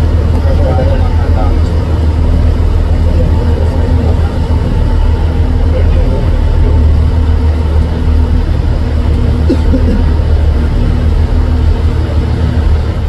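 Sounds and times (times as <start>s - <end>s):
bus engine and road rumble: 0.0s - 13.0s
faint engine hum: 0.0s - 13.0s.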